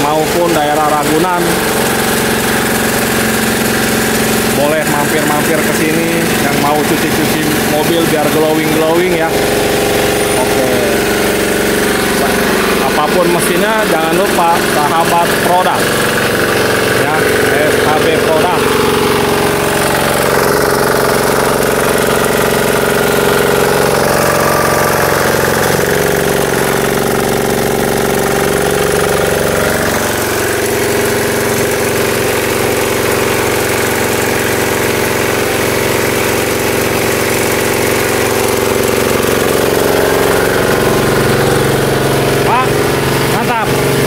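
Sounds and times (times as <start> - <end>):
pressure washer diesel engine running: 0.0 - 44.0.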